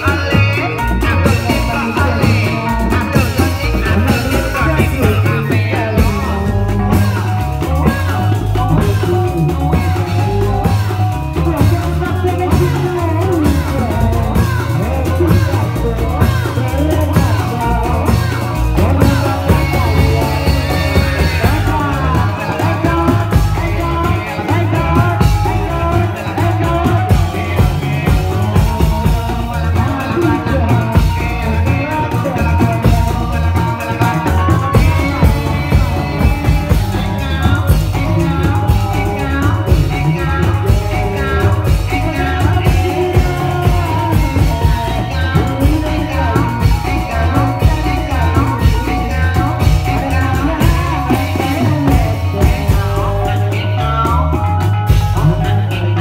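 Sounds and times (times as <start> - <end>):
drums with pulsing beat: 0.0 - 56.0
person singing melody: 0.0 - 56.0.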